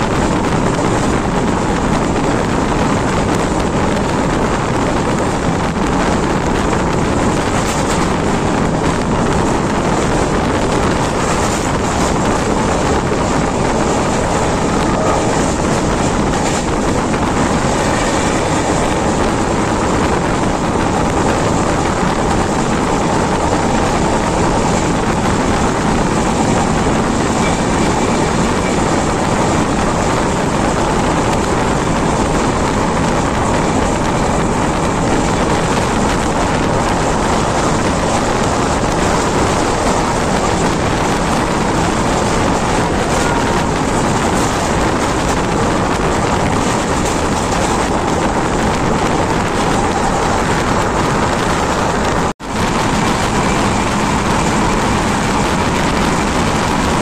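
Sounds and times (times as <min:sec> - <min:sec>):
air rushing past: 0:00.0 - 0:57.0
train wheels rushing on rails: 0:00.0 - 0:57.0.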